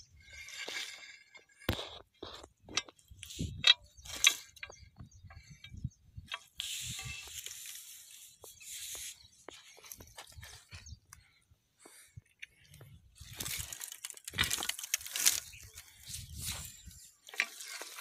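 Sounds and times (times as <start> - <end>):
rustling of dry stalks: 0.0 - 18.0.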